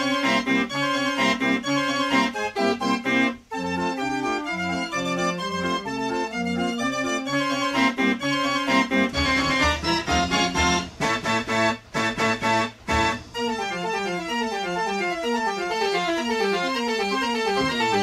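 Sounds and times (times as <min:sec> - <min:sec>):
organ music: 0:00.0 - 0:18.0.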